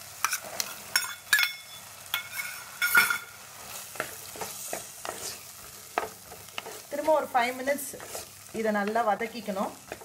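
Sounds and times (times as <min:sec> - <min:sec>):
low sizzle: 0:00.0 - 0:10.0
spatula stirring and scraping: 0:00.2 - 0:01.5, 0:02.1 - 0:09.0, 0:09.7 - 0:10.0.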